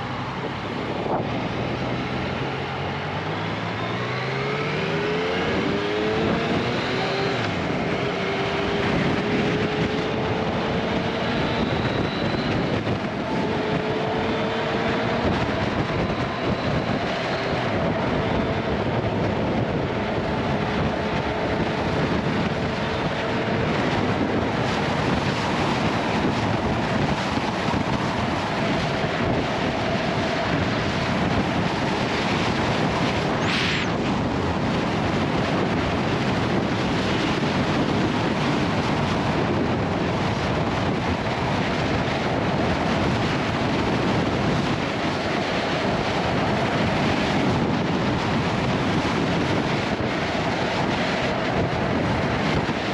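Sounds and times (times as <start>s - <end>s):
motorcycle engine: 0.0s - 45.0s
road noise: 0.0s - 52.9s
wind rush on microphone: 0.0s - 52.9s.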